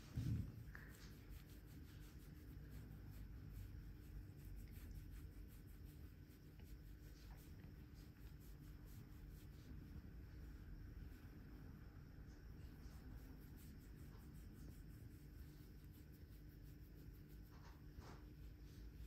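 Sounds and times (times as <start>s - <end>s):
fingers scratching cat fur: 0.0s - 10.2s, 12.6s - 19.0s
low room hum: 0.0s - 19.0s.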